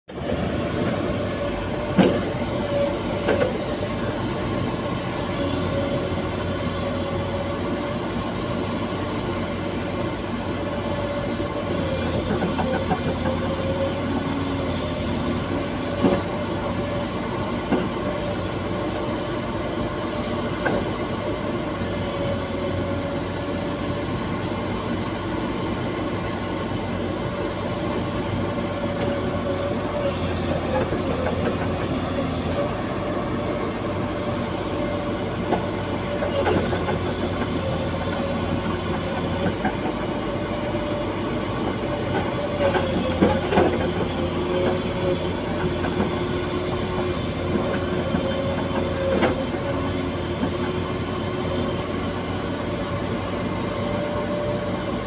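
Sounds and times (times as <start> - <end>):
excavator engine running: 0.1 - 55.0.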